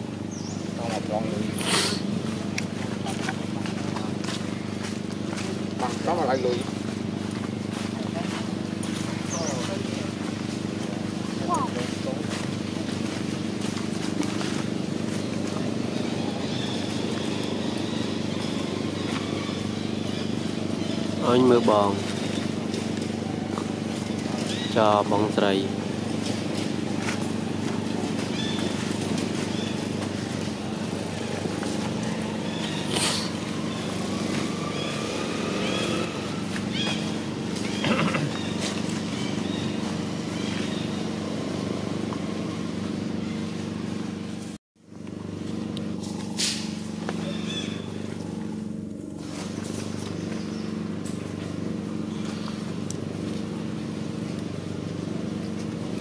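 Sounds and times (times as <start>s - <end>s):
motor engine humming: 0.0s - 56.0s.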